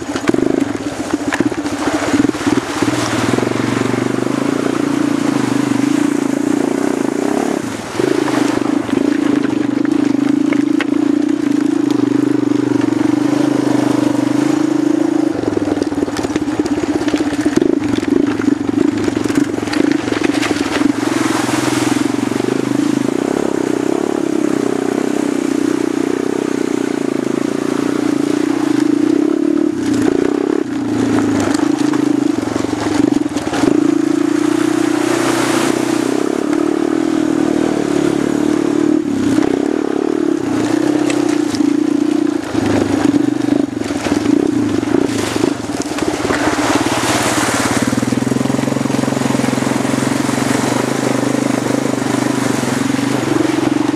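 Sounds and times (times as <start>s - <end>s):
tyres crunching on gravel: 0.0s - 6.7s, 7.3s - 23.1s, 28.5s - 37.1s, 37.7s - 53.9s
quad bike engine revving: 0.0s - 53.9s.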